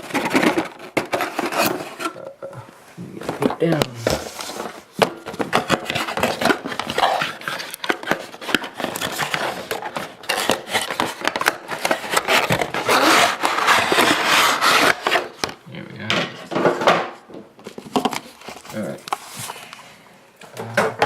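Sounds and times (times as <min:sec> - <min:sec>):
packaging rustling and scraping: 0:00.0 - 0:15.6, 0:17.6 - 0:20.8.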